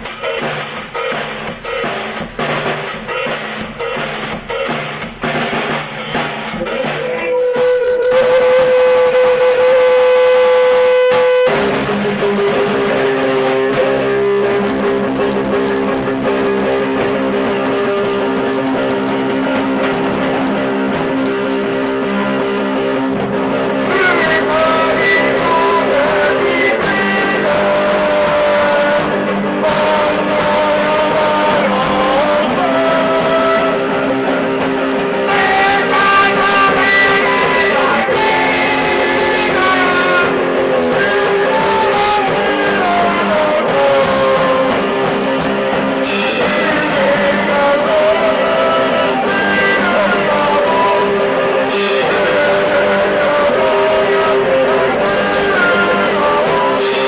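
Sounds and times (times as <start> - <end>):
band playing held chords: 0.0 - 57.0.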